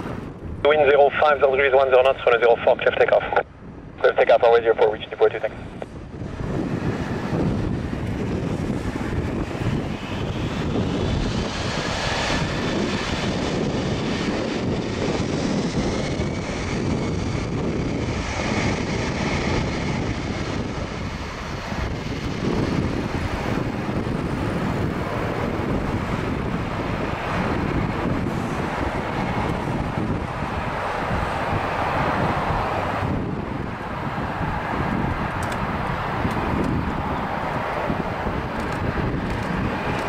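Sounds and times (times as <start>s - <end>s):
jet engines running steadily: 0.0s - 40.0s.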